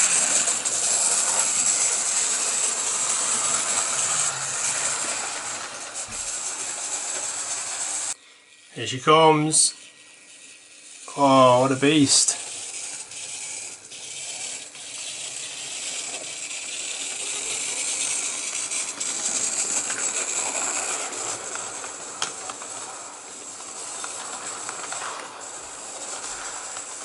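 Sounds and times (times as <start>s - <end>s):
model train motor and wheels rushing: 0.0s - 27.0s.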